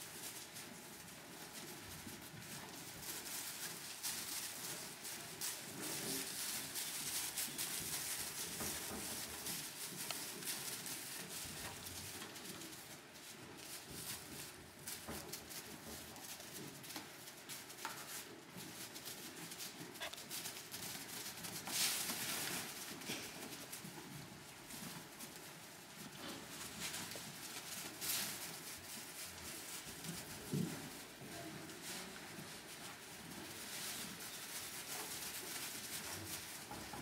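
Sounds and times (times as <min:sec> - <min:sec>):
straw rustling under hooves: 0:00.0 - 0:37.0.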